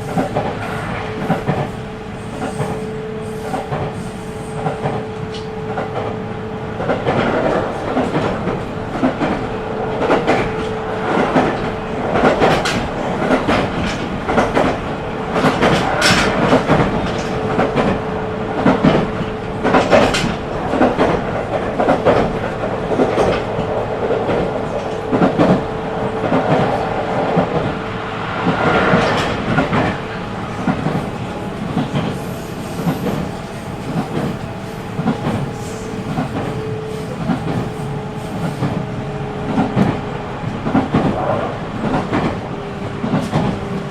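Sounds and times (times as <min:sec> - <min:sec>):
train rumble: 0:00.0 - 0:43.9
train wheels clicking over joints: 0:06.8 - 0:43.9.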